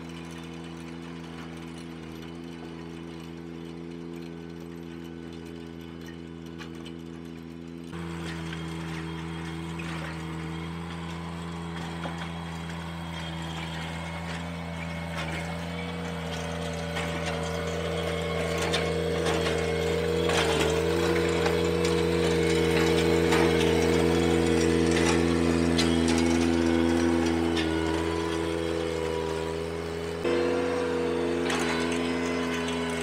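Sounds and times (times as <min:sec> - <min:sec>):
power rake churning gravel: 0:00.0 - 0:33.0
tractor engine running: 0:00.0 - 0:33.0.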